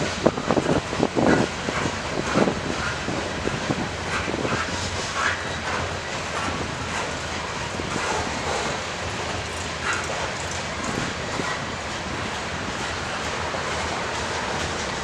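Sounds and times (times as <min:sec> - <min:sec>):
train rumbling on track: 0:00.0 - 0:15.0
wheels clicking over rail joints: 0:00.0 - 0:15.0.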